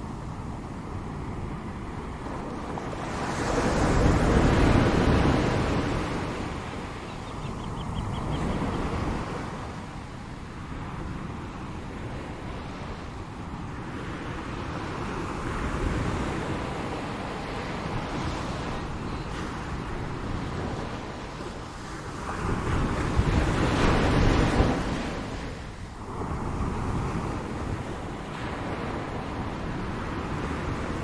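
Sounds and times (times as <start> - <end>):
waves breaking on shore: 0.0 - 31.0.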